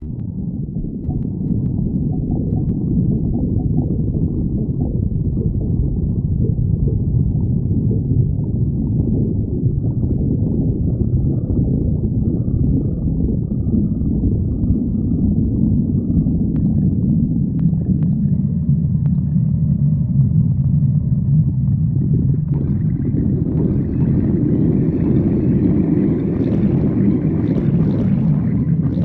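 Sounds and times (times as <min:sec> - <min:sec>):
stomach growling: 0:00.0 - 0:29.0.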